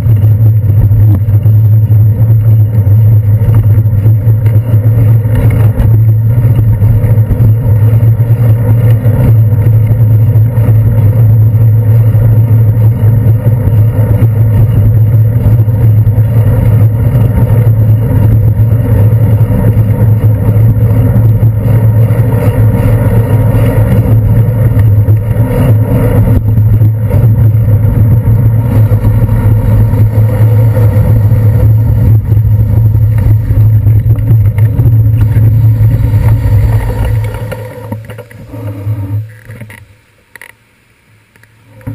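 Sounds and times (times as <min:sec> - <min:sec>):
wind on camera: 0:00.0 - 0:40.5
city traffic: 0:00.0 - 0:41.9
road and handlebar vibration: 0:00.0 - 0:41.9.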